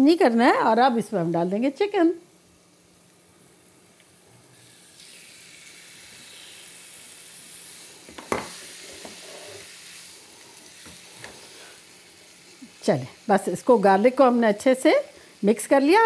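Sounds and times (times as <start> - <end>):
chicken sizzling in hot oil: 0.3 - 16.0.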